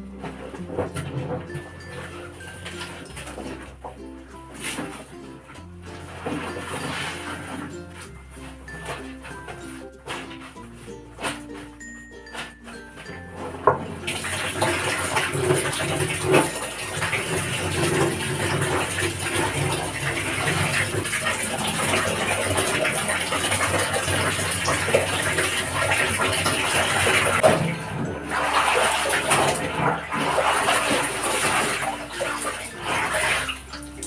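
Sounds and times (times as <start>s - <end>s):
clothes sloshing and scrubbed in water: 0.0s - 34.0s.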